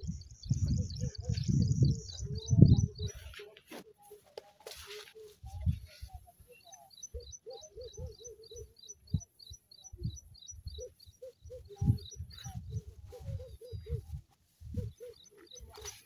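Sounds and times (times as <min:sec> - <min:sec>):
birds calling low notes: 0:00.0 - 0:16.0.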